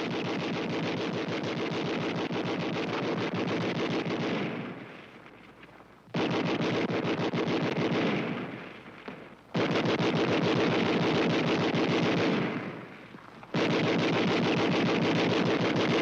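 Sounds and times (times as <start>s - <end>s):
machine gun firing bursts: 0.0s - 16.0s.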